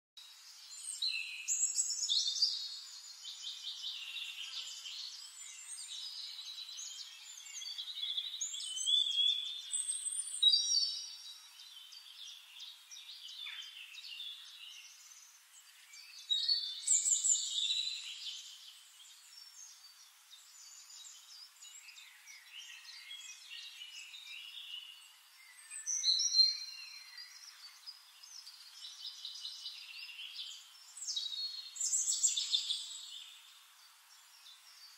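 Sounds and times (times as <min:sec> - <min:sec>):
birds singing and chirping: 0:00.2 - 0:34.9.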